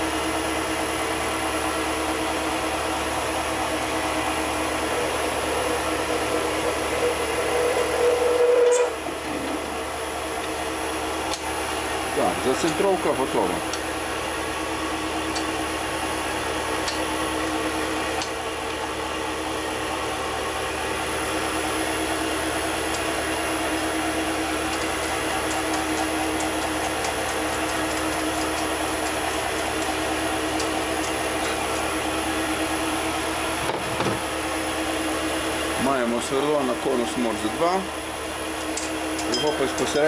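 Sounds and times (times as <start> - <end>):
lathe motor hum and whine: 0.0 - 40.0.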